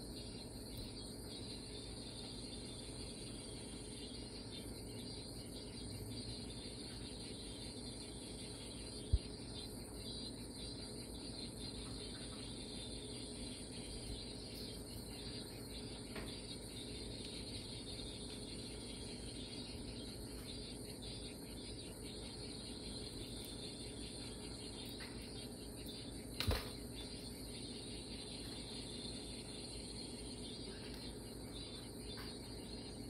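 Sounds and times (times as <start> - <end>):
faint steady tone: 0.0 - 33.0
low hum and hiss: 0.0 - 33.0.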